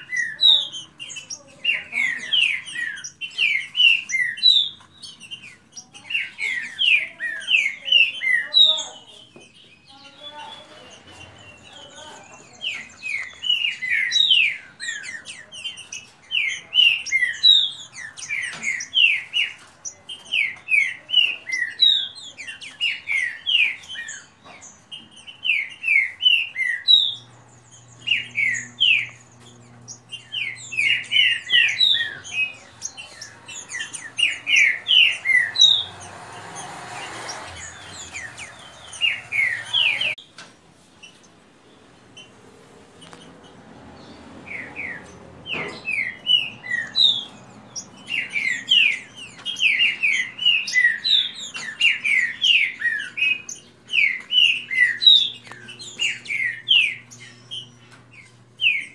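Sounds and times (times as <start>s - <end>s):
birds singing rapid whistles: 0.0s - 40.4s, 43.0s - 58.9s.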